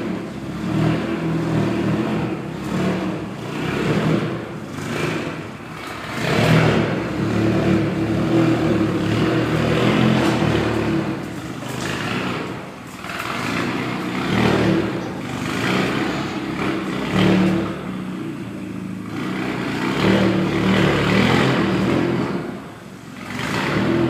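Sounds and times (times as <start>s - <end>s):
car engine revving through exhaust: 0.0s - 24.0s.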